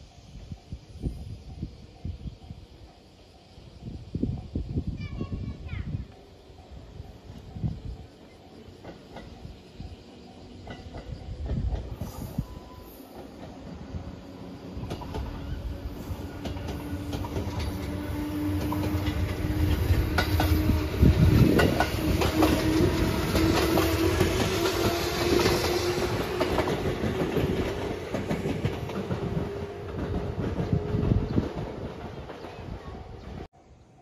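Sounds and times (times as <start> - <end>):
diesel railcar engine: 0.0 - 33.9.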